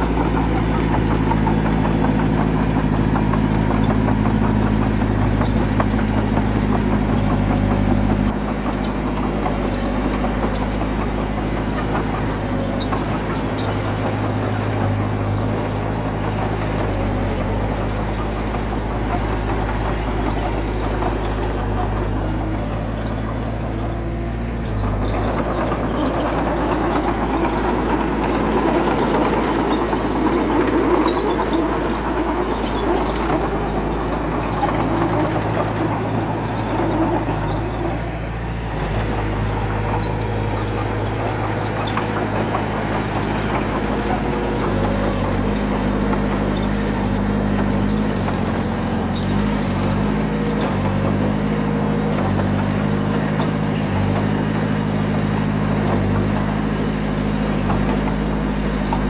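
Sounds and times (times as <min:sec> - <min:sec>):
heavy machine diesel engine running: 0:00.0 - 0:59.0.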